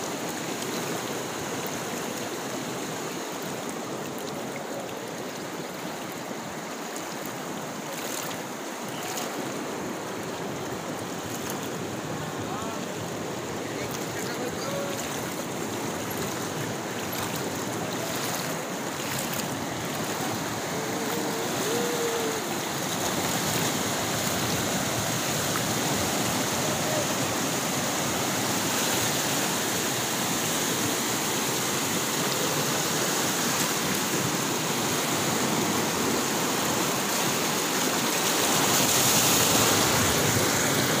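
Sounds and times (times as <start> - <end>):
river whitewater rushing: 0.0 - 41.0.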